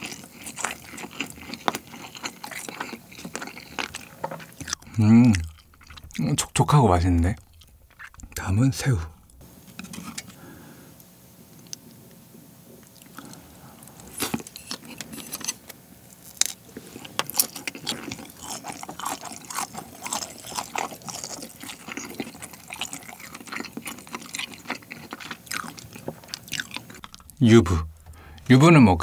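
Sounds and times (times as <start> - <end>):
person chewing sushi: 0.0 - 8.4, 12.8 - 28.4.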